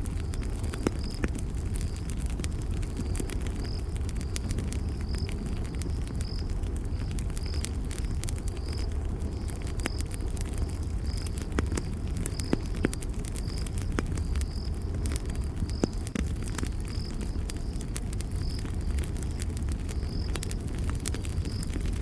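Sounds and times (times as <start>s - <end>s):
campfire crackling and popping: 0.0s - 22.0s
insect chirping: 0.2s - 22.0s.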